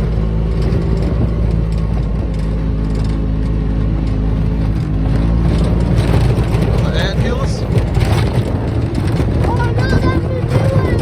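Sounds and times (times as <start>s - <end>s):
small buggy engine running: 0.0s - 11.0s.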